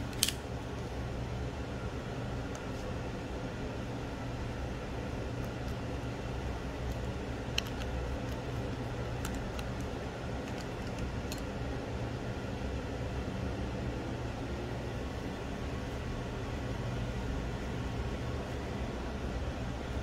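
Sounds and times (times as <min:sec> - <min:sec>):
low background hum and hiss: 0:00.0 - 0:20.0.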